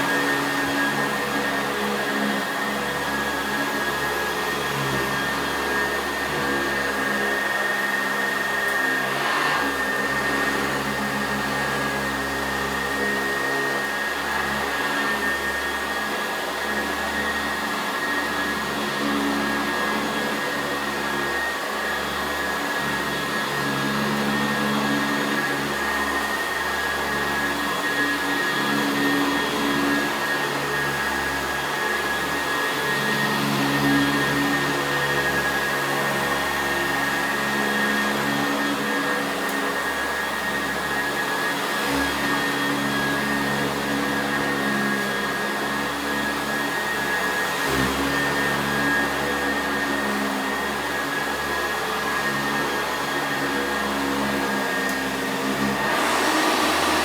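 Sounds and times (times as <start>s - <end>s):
upright vacuum cleaner running: 0.0s - 57.0s.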